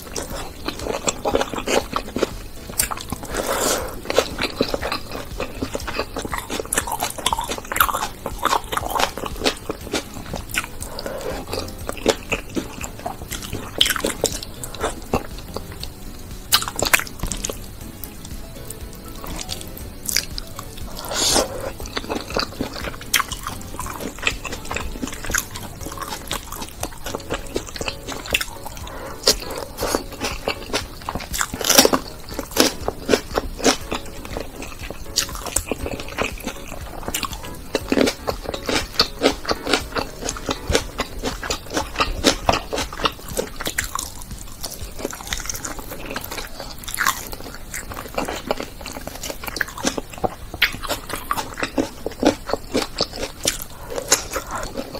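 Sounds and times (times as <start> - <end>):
wet chewing and biting: 0.0 - 54.9.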